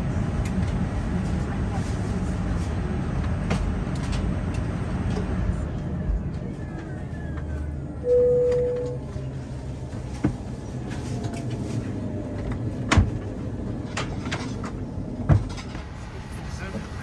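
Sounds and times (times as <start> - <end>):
aircraft cabin hum: 0.1 - 17.0.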